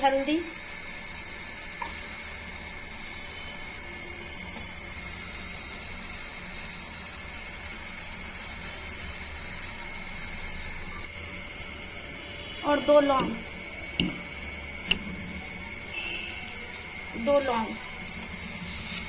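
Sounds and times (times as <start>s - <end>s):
gas burner hissing: 0.0s - 19.0s.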